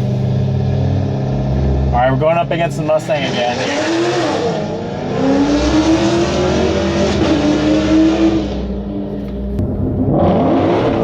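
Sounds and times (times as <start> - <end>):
supercharged car engine revving: 0.0 - 11.0.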